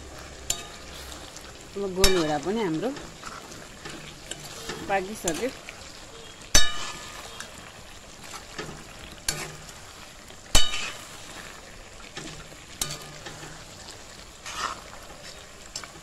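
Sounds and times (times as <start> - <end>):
curry sizzling in a pan: 0.0 - 16.0
spatula stirring and scraping: 0.0 - 16.0.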